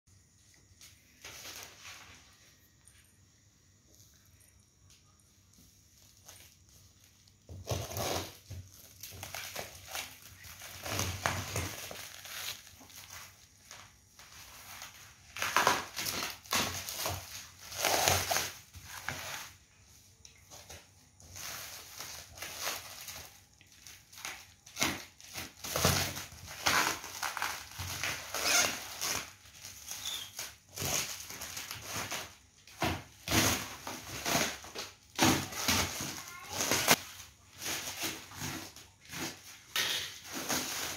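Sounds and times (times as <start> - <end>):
plastic wrap crinkling and tearing: 5.9 - 40.9.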